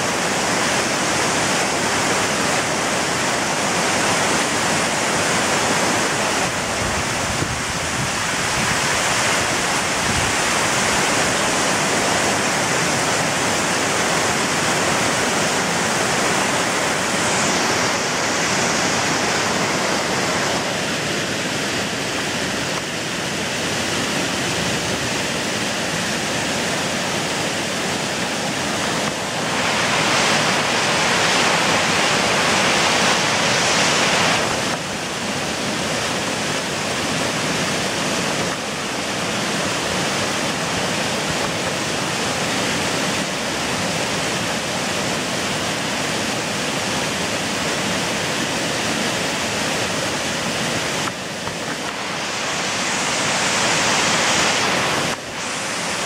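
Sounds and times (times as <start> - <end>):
waterfall water rushing: 0.0 - 56.0.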